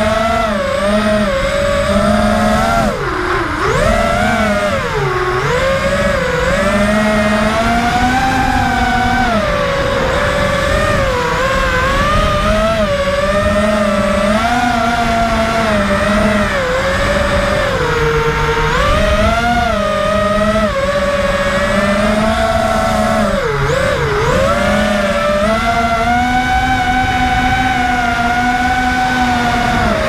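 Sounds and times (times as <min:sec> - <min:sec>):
drone motors and propellers whining: 0:00.0 - 0:30.0.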